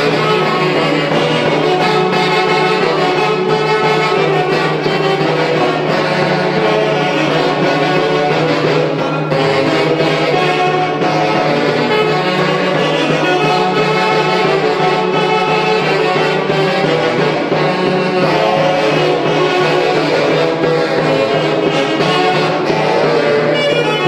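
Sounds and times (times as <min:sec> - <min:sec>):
drum beating: 0:00.0 - 0:24.0
saxophone band playing dance tune: 0:00.0 - 0:24.0.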